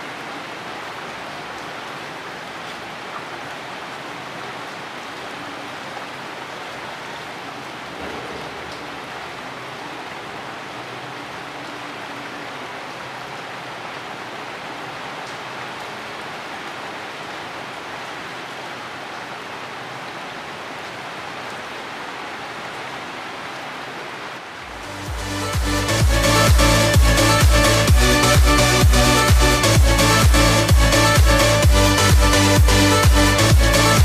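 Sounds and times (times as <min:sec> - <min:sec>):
heavy rain on leaves: 0:00.0 - 0:34.0.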